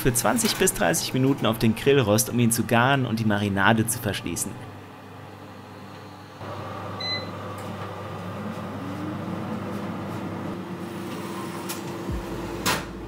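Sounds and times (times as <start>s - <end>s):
oven fan spinning up and humming: 0.0s - 13.0s.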